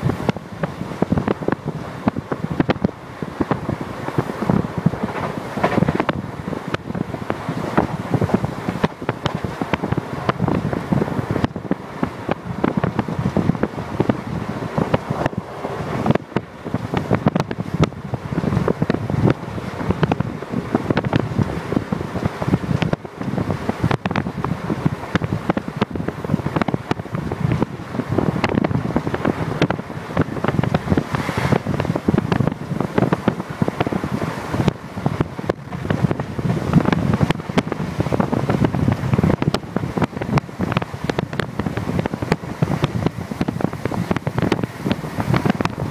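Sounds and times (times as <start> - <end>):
train running rumble: 0.0 - 45.9
wind buffeting microphone: 0.0 - 45.9.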